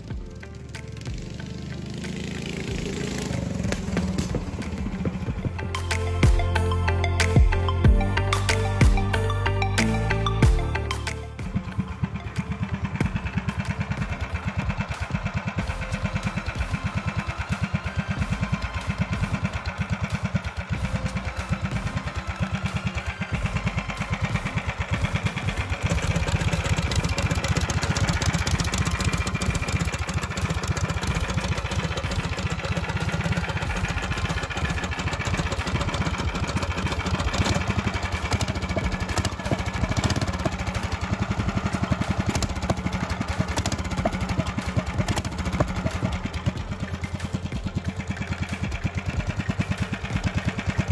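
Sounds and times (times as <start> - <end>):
single-cylinder engine running: 0.0 - 50.9.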